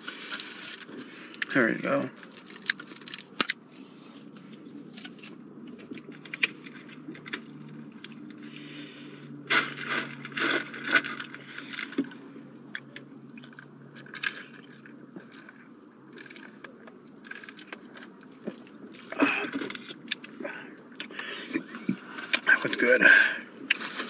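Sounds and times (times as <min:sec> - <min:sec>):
straw wrapper rustling: 0:00.0 - 0:20.3.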